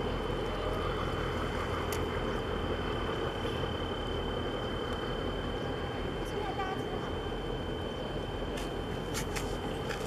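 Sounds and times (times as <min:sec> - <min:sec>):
low rumble and hiss: 0:00.0 - 0:10.0.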